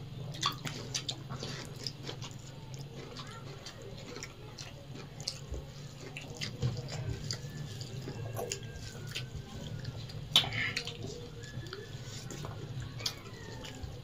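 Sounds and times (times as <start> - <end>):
fingers squishing food on plates: 0.0 - 14.0
mouths chewing: 0.0 - 14.0
steady low hum: 0.0 - 14.0.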